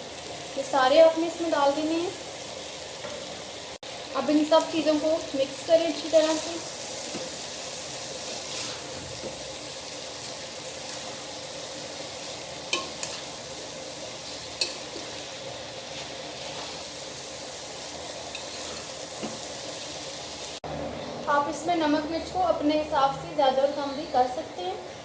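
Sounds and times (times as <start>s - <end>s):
food sizzling in oil: 0.0s - 25.0s.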